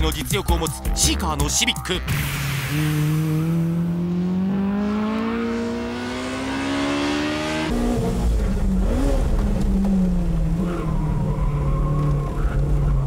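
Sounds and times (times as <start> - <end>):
car engine revving high: 2.0 - 13.0.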